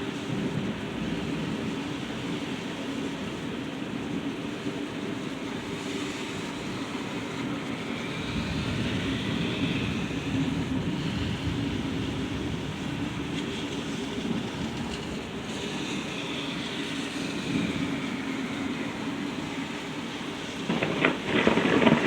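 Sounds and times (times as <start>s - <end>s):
low rumble of thunder: 0.0s - 22.0s
rain hissing: 0.0s - 22.0s.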